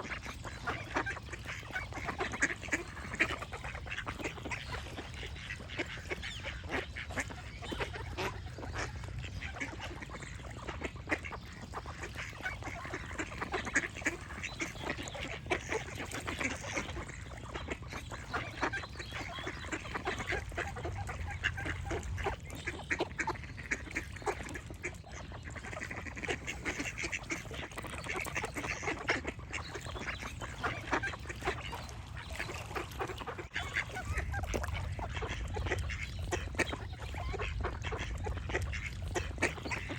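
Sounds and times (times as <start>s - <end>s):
ducks quacking: 0.0s - 39.9s
small birds chirping: 0.4s - 34.3s.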